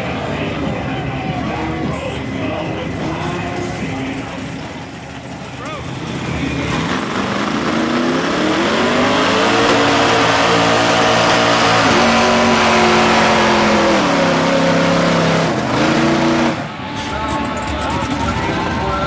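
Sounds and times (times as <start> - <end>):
truck engines revving hard: 0.0 - 19.0.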